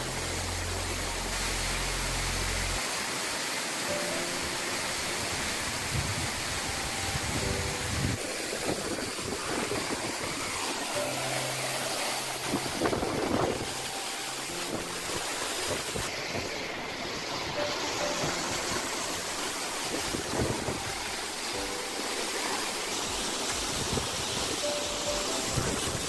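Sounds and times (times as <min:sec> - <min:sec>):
waterfall pouring onto rocks: 0:00.0 - 0:26.0.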